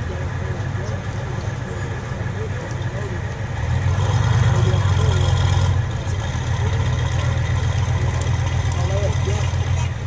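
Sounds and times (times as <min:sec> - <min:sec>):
tank engine low rumble: 0:00.0 - 0:10.0.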